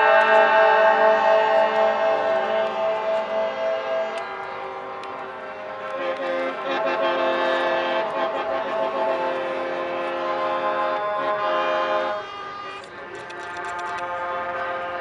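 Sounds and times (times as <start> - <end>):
truck air horns blowing: 0.0 - 15.0.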